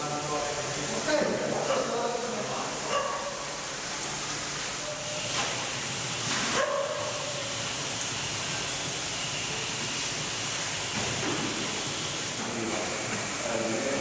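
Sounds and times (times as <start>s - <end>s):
water rushing in a pond: 0.0s - 14.0s.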